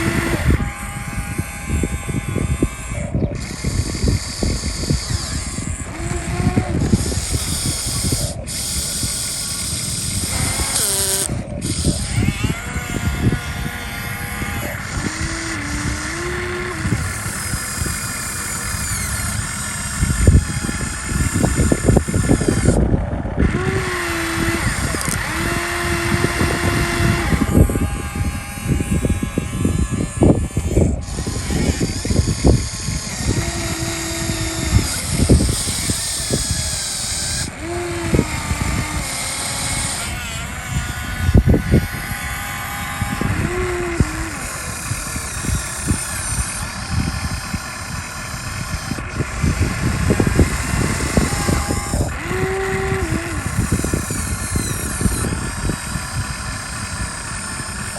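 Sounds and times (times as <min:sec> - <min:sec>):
small electric motors whining: 0:00.0 - 0:57.9.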